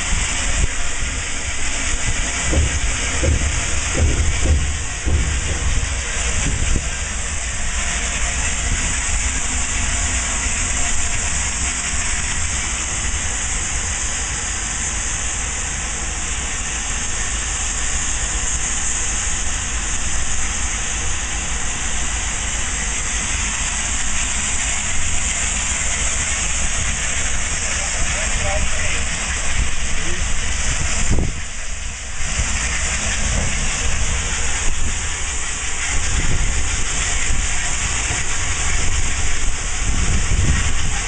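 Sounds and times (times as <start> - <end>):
steam hissing: 0.0 - 41.0.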